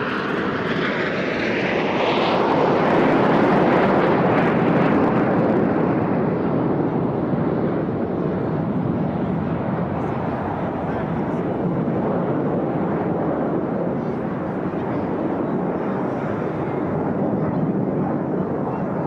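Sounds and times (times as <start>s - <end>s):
high jet whine falling in pitch: 0.0s - 19.0s
jets passing overhead: 0.0s - 19.0s.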